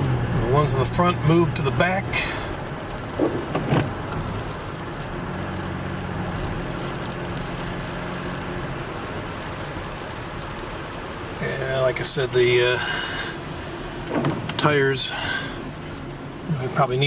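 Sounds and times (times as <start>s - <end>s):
rain on a car: 0.0s - 17.0s
road and engine noise: 0.0s - 17.0s.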